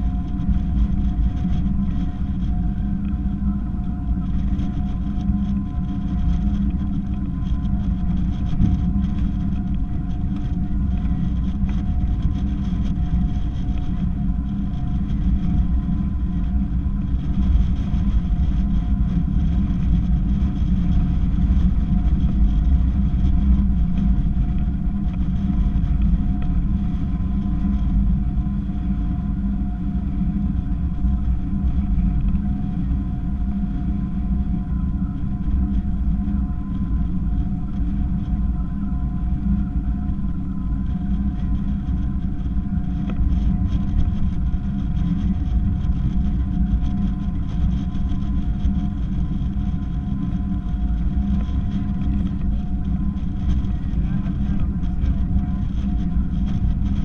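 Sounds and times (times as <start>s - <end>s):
steady engine drone: 0.0s - 57.0s.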